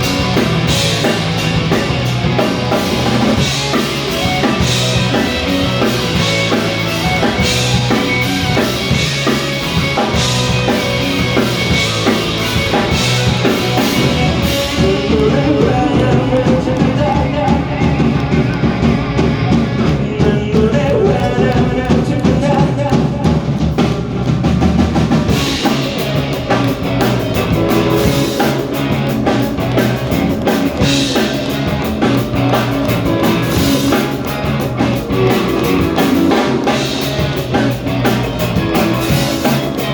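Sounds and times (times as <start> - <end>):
drum kit steady beat: 0.0 - 39.9
rock band playing live: 0.0 - 39.9.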